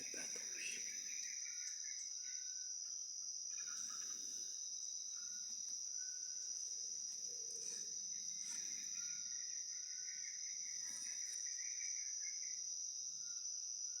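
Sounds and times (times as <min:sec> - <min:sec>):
chorus of insects: 0:00.0 - 0:14.0
short faint insect calls: 0:00.0 - 0:14.0.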